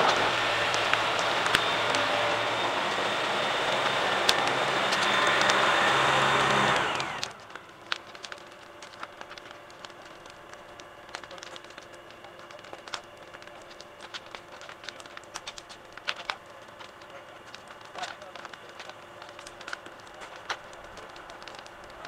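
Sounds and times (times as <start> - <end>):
debris cracks and ticks: 0.0 - 22.0
tractor engine running: 0.0 - 22.0.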